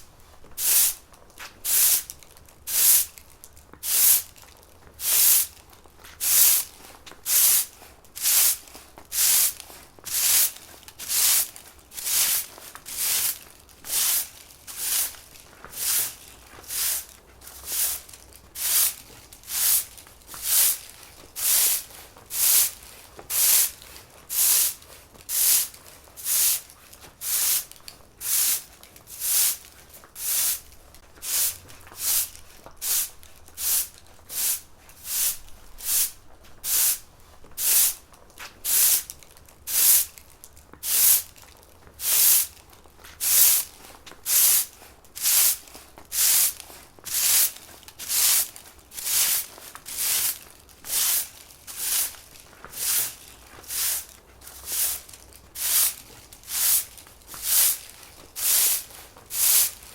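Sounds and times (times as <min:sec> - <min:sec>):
broom sweeping floor: 0:00.0 - 0:59.9.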